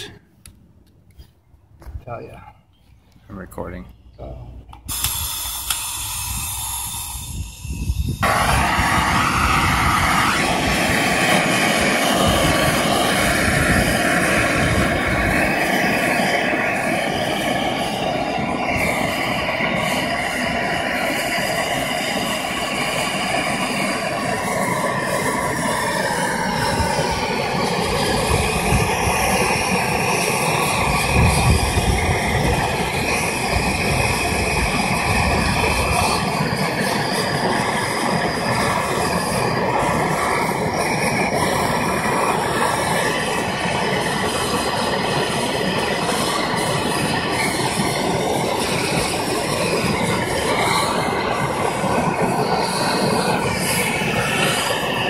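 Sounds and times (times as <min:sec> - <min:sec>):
propane torch burning: 0:03.4 - 0:55.0.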